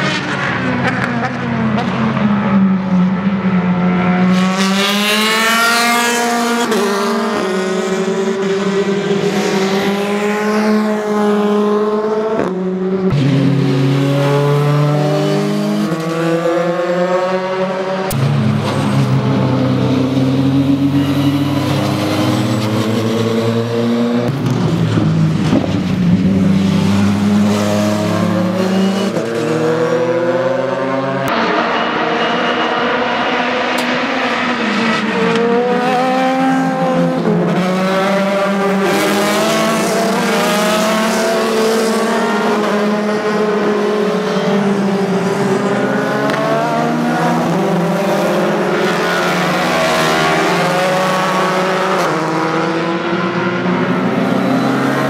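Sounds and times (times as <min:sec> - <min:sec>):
racing car engines at full throttle: 0:00.0 - 0:55.0.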